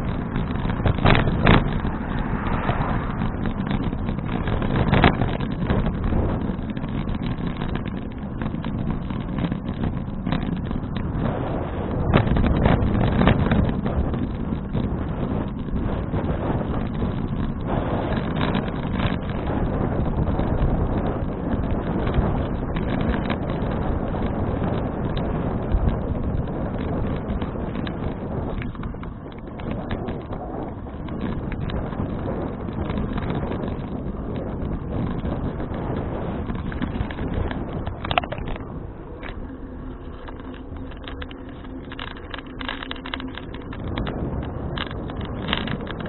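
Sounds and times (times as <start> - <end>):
road rumble: 0.0 - 46.0
small rattling clicks: 0.0 - 46.0
wind buffeting microphone: 0.0 - 46.0.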